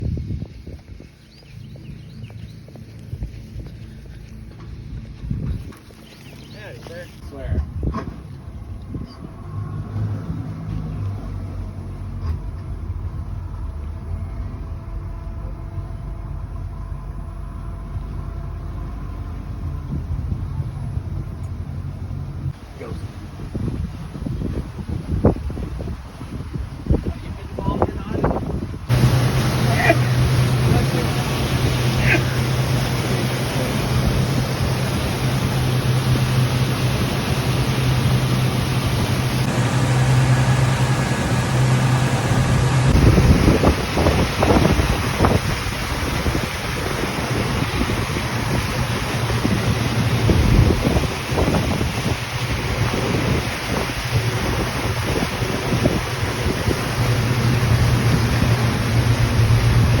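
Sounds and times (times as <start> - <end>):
wind buffeting microphone: 0.0 - 11.1, 12.4 - 60.0
ferry engine rumbling: 0.0 - 60.0.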